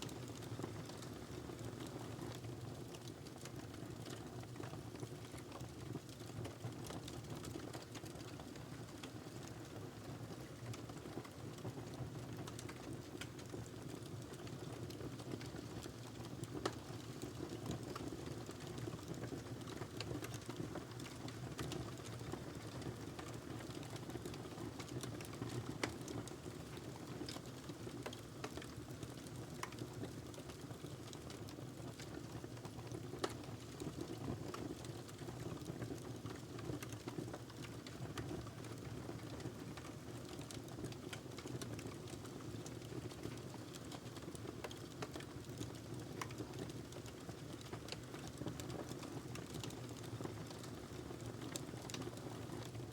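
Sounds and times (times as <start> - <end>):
fire crackles and pops: 0.0 - 52.9.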